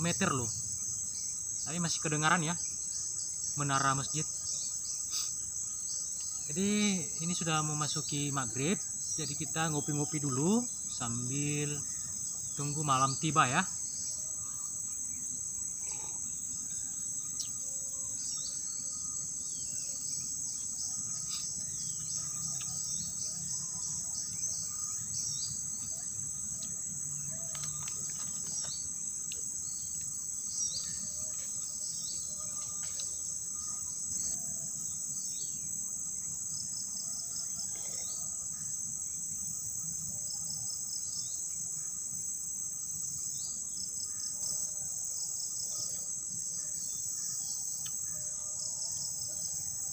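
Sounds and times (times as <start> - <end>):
insect chirps: 0.0 - 49.9
insects high-pitched shrill: 0.0 - 49.9.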